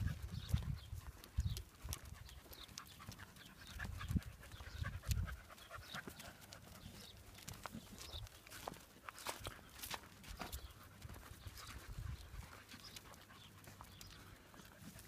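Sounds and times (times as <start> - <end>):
dog panting: 0.0 - 8.1, 10.6 - 15.0.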